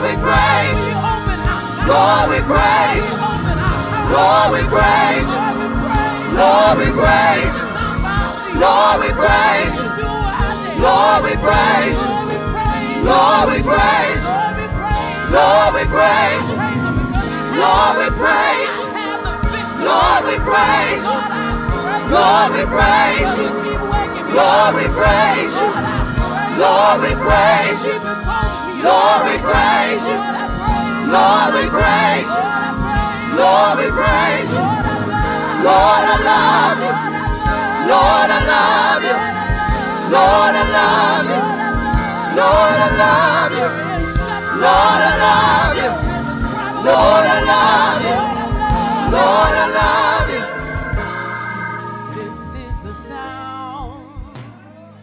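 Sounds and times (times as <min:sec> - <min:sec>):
group of singers singing: 0:00.0 - 0:54.9
held chords: 0:00.0 - 0:55.0
instrumental backing with beat: 0:00.0 - 0:55.0.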